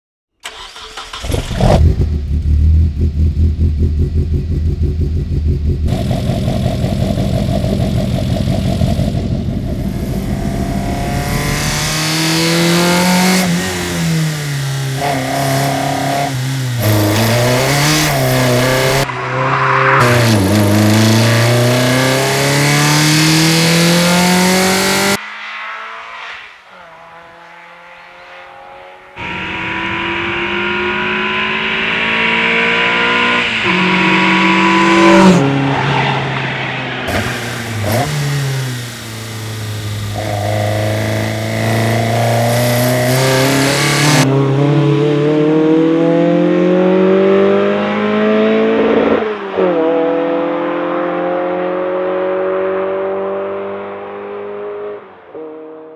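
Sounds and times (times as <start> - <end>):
car engine revving: 0.4 - 55.9.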